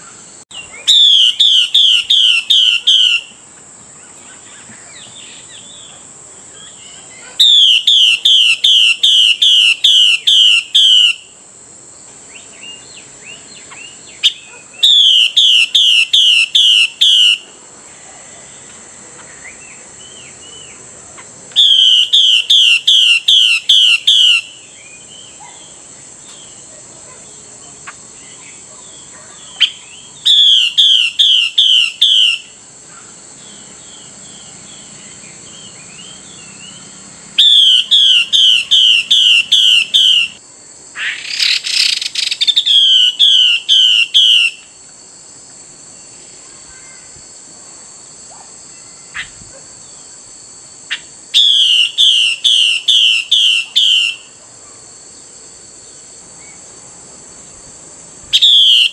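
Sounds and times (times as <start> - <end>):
high-pitched hiss: 0.0 - 58.9.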